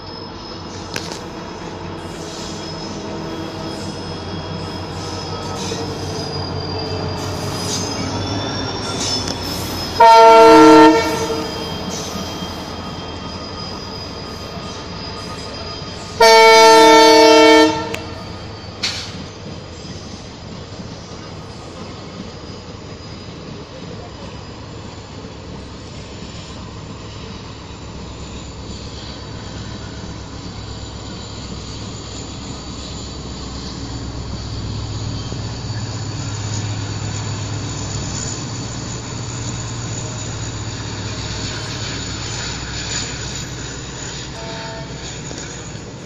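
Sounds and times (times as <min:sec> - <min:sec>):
train coaches rumbling on rails: 0:00.0 - 0:46.0.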